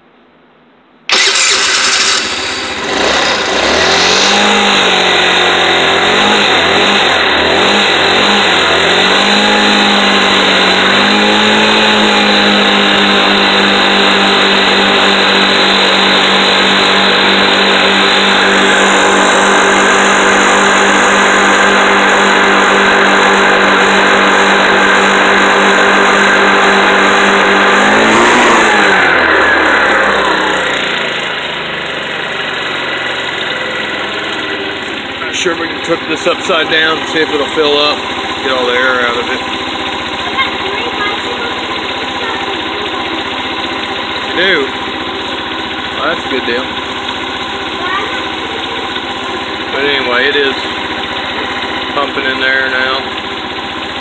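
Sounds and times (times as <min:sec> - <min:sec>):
scooter engine revving: 0:01.1 - 0:54.0.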